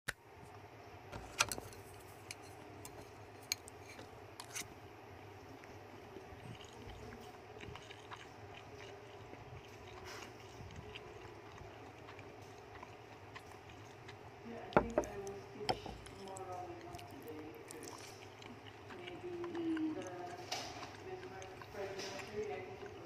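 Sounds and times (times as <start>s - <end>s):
faint background hum: 0.1s - 23.0s
rat chewing: 1.2s - 23.0s.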